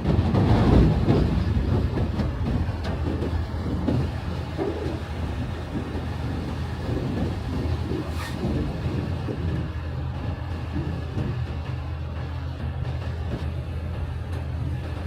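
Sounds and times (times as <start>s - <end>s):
harvesting machinery rumbling: 0.0s - 15.0s.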